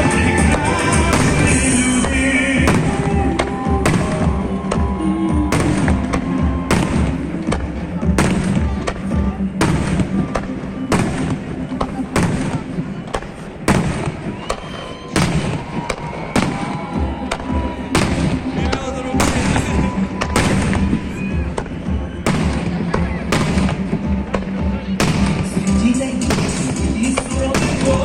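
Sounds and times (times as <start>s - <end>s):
fireworks bursting with sharp bangs: 0.0s - 28.0s
music from loudspeakers: 0.0s - 28.0s.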